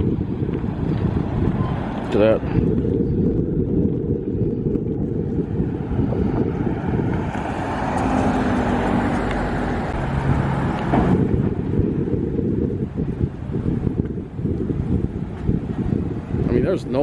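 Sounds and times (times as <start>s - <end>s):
car passing: 0.0s - 16.5s
wind buffeting microphone: 0.0s - 17.0s.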